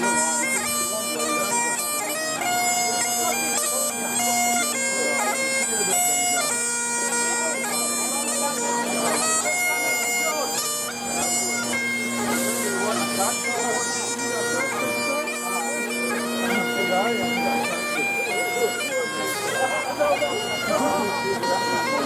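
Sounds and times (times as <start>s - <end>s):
bagpipes playing: 0.0s - 22.0s
people talking faintly: 0.0s - 22.0s.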